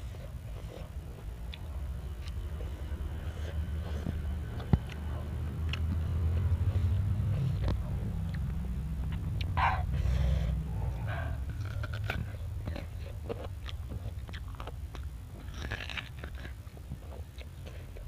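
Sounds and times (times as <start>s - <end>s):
crunchy mango chewing: 0.0s - 18.0s
steady low rumble: 0.0s - 18.0s.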